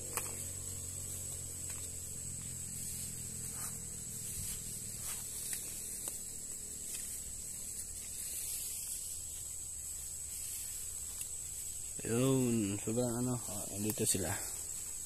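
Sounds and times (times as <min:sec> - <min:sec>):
footsteps through leafy undergrowth: 0:00.0 - 0:15.0
high-pitched insect drone: 0:00.0 - 0:15.0.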